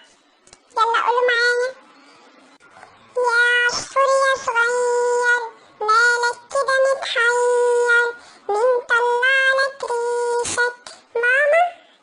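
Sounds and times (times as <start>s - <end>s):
high pitch-shifted singing voice: 0.7s - 1.9s, 2.6s - 12.0s.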